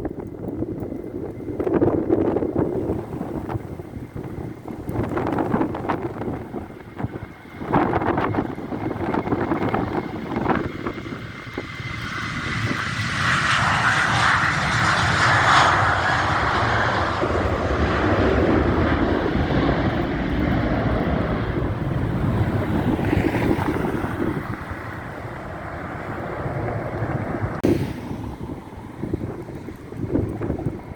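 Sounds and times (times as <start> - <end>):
jet engines passing by: 0.0 - 30.9.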